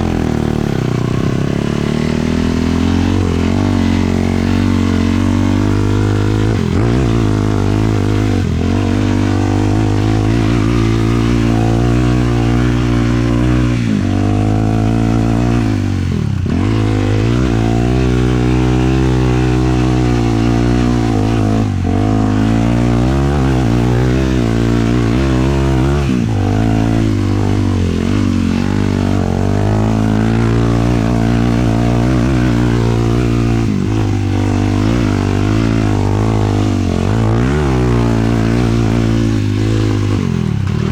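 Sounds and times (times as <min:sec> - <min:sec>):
quad engine revving under load: 0:00.0 - 0:40.9.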